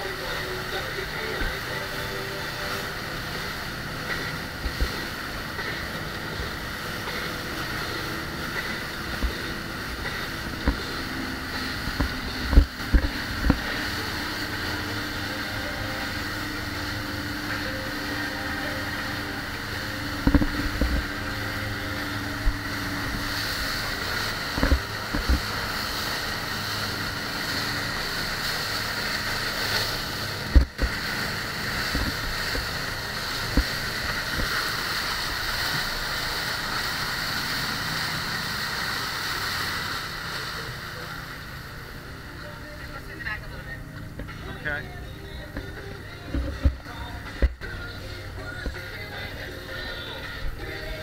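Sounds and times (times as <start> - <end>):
motorboat engine drone: 0.0 - 51.0
wind and water rushing: 0.0 - 51.0.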